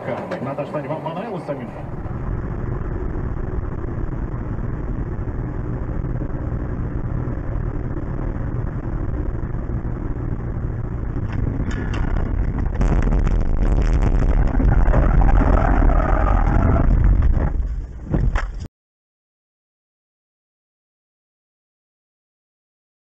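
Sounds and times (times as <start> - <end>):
car interior engine rumble: 0.0 - 18.7.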